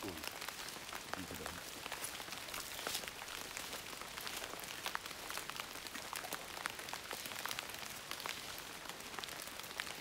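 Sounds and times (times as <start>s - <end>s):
rain on foliage and tarp: 0.0s - 10.0s.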